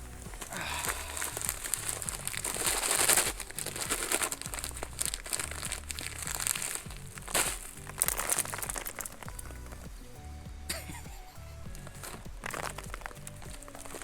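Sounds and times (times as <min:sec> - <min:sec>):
plastic packaging crinkling: 0:00.0 - 0:10.0, 0:11.6 - 0:14.0
quiet background music: 0:00.0 - 0:14.0.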